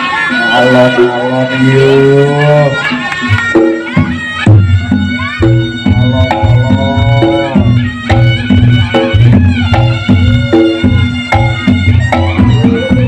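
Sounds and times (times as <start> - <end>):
reed pipe melody: 0.0 - 13.0.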